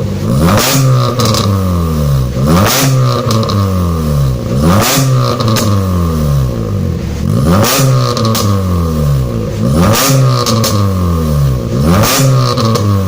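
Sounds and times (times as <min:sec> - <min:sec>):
car engine revving: 0:00.0 - 0:13.0
exhaust cracks: 0:00.0 - 0:13.0.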